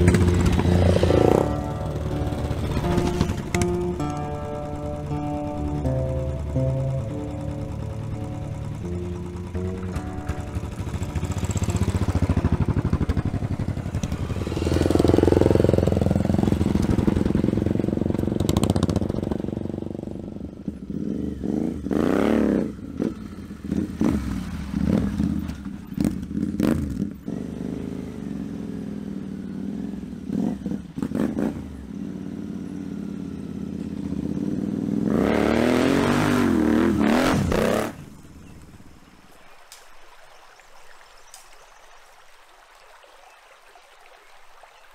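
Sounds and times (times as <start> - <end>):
motorcycle engine revving: 0.0 - 38.6.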